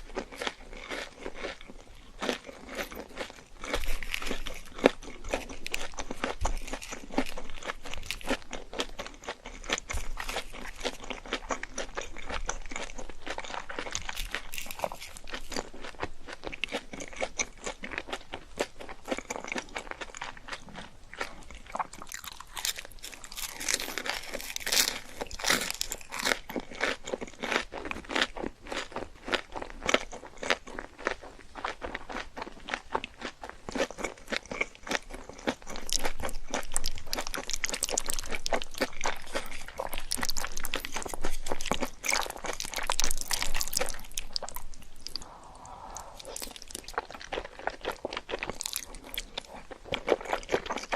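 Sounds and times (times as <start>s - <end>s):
chewing crunchy fried food: 0.0s - 50.9s.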